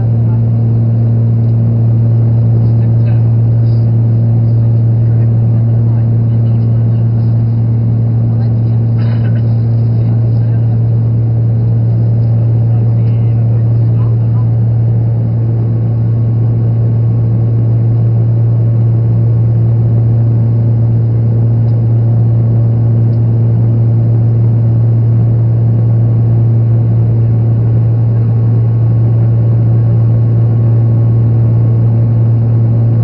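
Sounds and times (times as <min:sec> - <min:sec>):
airplane engine drone: 0:00.0 - 0:33.0.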